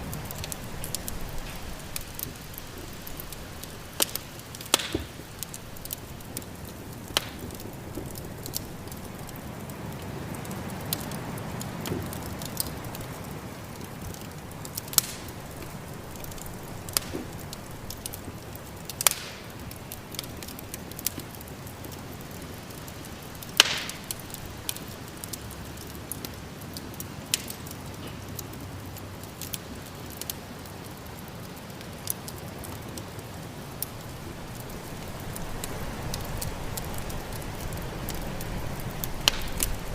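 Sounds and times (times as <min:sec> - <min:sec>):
low rumble of wind: 0:00.0 - 0:39.9
wood fire crackling and popping: 0:00.0 - 0:39.9.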